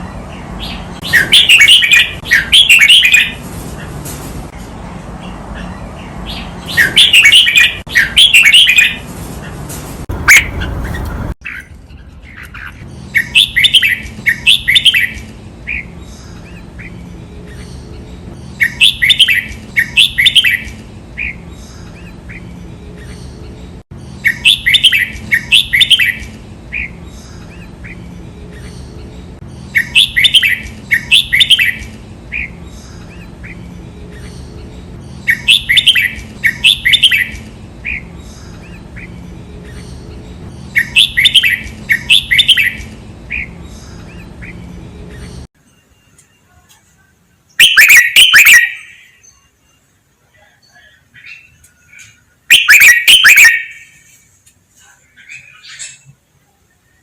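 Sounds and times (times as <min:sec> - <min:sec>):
bird singing: 0:00.0 - 0:03.4, 0:05.5 - 0:09.0, 0:10.1 - 0:54.2.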